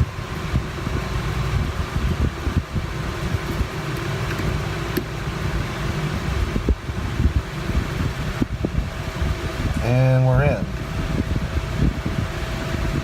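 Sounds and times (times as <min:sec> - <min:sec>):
fan-like hum and hiss: 0:00.0 - 0:13.0.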